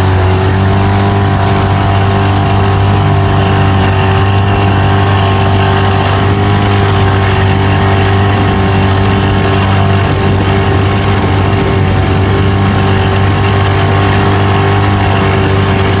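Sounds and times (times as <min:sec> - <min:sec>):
motorboat engine droning: 0:00.0 - 0:16.0
water rushing from wake: 0:00.0 - 0:16.0.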